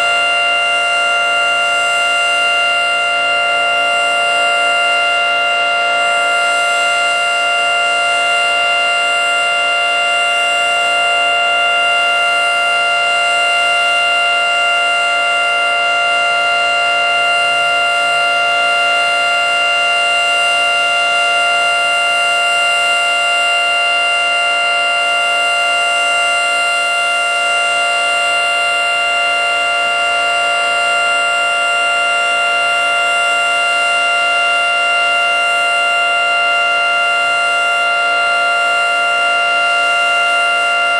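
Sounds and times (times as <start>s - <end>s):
three-tone warning siren chord: 0.0s - 40.9s.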